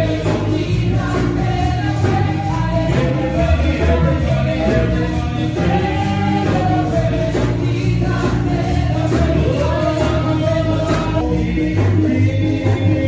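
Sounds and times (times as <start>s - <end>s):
bass and percussion beat: 0.0s - 13.0s
gospel choir singing: 0.0s - 13.0s.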